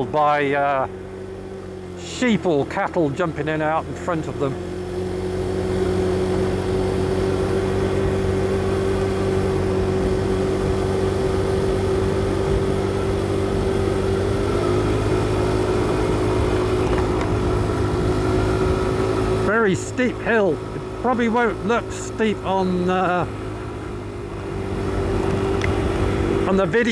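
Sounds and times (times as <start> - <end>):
motorcycle engine under load: 0.0 - 26.9.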